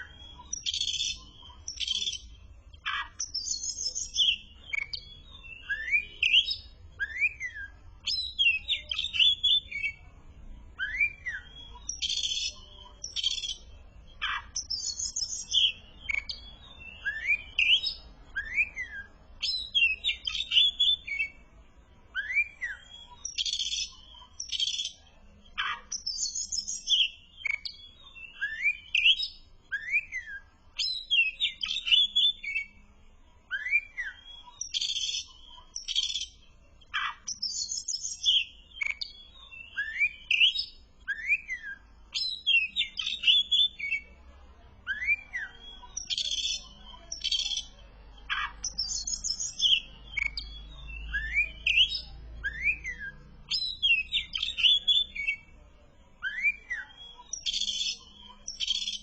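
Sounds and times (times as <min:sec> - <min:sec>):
bird singing whistled notes: 0:00.0 - 0:10.1, 0:10.7 - 0:21.4, 0:22.1 - 0:44.1, 0:44.8 - 0:55.5, 0:56.2 - 0:59.0.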